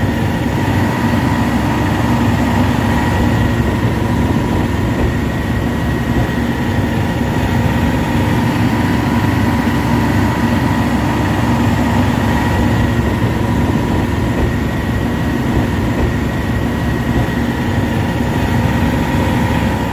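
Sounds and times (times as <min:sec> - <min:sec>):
excavator diesel engine running: 0:00.0 - 0:19.9
high whine: 0:00.0 - 0:19.9.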